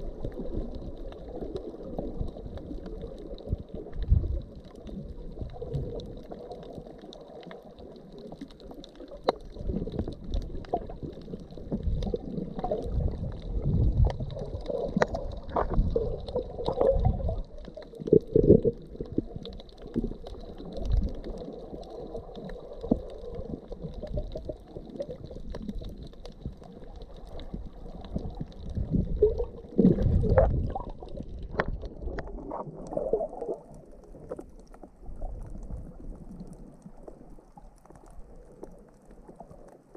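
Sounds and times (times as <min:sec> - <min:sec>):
muffled underwater water sloshing: 0:00.0 - 0:39.9
water surges: 0:00.0 - 0:39.9.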